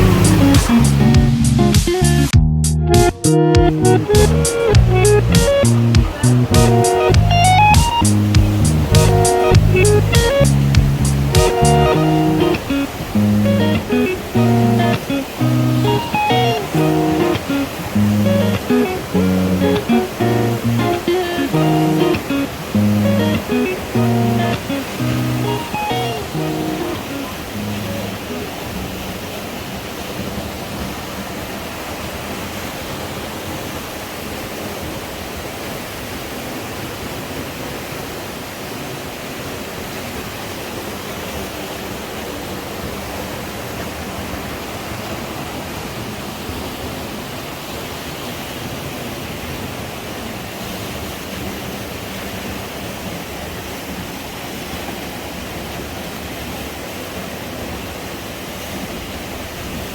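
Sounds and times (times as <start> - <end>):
fast river water rushing: 0.0 - 2.1, 3.7 - 59.9.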